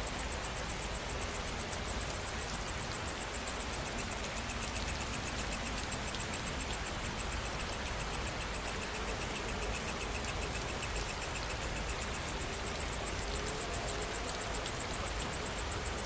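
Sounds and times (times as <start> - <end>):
high-pitched pulsing insect chirp: 0.0 - 16.0
lower pulsing insect call: 0.0 - 16.0
steady rain falling: 0.0 - 16.0.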